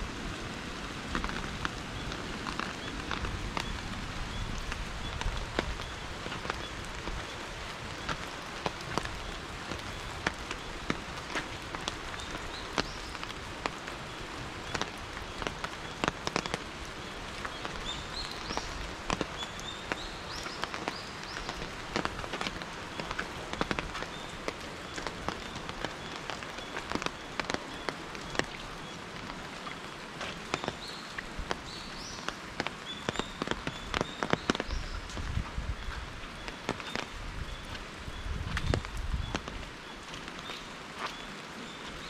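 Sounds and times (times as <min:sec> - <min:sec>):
raindrops tapping: 0:00.0 - 0:42.0
steady rain: 0:00.0 - 0:42.0.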